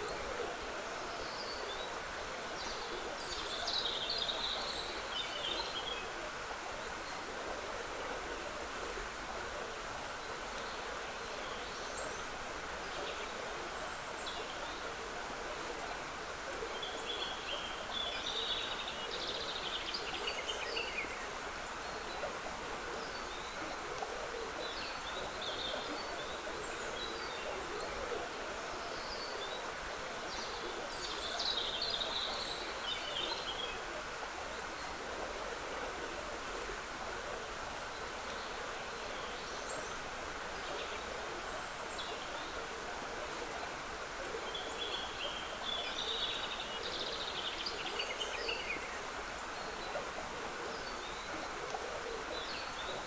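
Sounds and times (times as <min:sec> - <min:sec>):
woodland stream trickling: 0:00.0 - 0:53.0.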